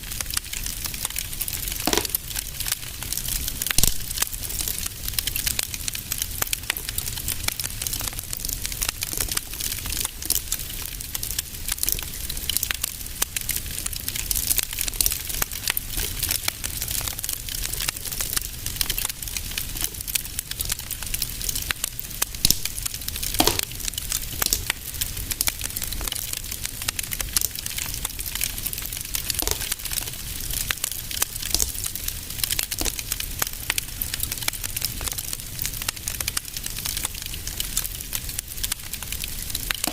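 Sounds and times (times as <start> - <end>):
loud fire snaps: 0.0 - 39.9
wood fire crackling: 0.0 - 39.9.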